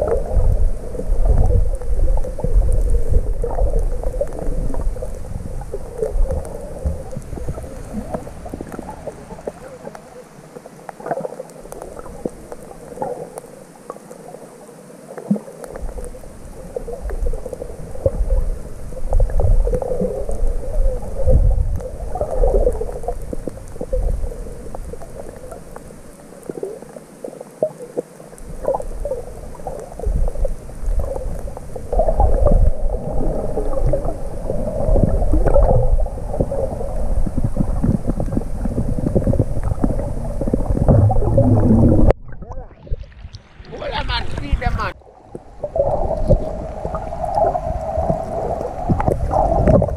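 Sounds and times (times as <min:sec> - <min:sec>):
underwater rumbling and gurgling: 0:00.0 - 0:49.9.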